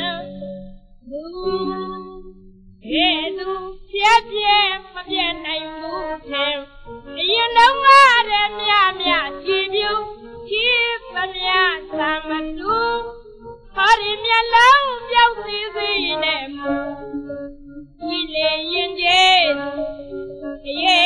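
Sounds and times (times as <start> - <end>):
woman singing ornamented melody: 0.0 - 21.0.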